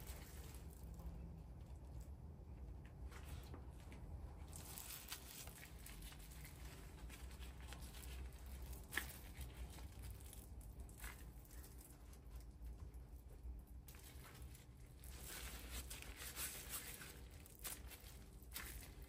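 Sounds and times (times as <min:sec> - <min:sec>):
low steady hum: 0:00.0 - 0:19.0
rustling and handling noises: 0:00.0 - 0:19.0.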